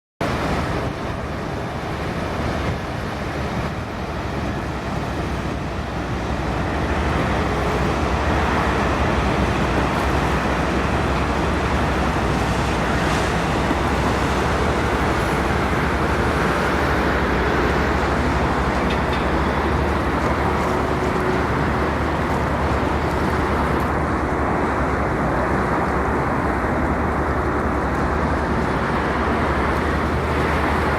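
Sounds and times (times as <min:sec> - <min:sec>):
low engine rumble: 0:00.2 - 0:30.9.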